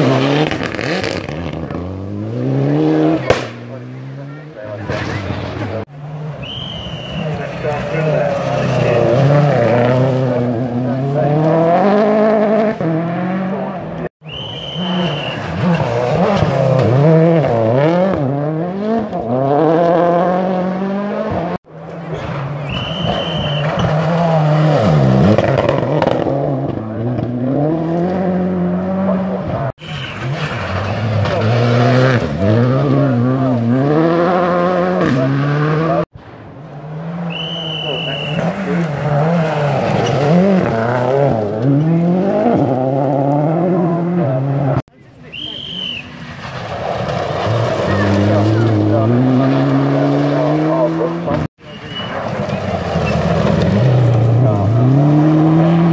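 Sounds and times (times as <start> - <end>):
rally car engine revving: 0.0 - 44.9, 46.1 - 55.9.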